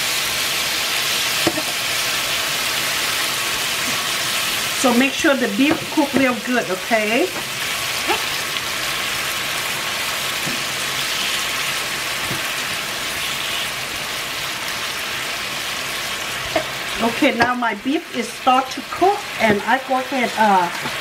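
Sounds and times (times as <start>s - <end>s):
beef sizzling in a frying pan: 0.0s - 21.0s.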